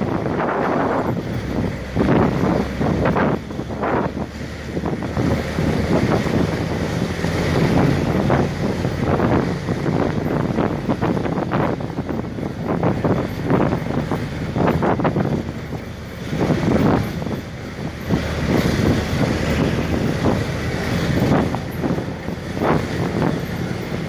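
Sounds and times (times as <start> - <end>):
jeep engine and tyres rumbling: 0.0 - 24.0
wind buffeting microphone: 0.0 - 24.0.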